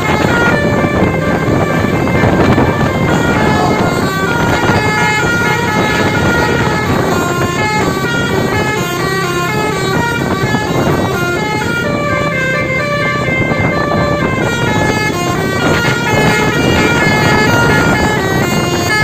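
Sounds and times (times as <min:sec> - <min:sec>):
musical bus horn melody: 0:00.0 - 0:19.0
steady low rumble: 0:00.0 - 0:19.0.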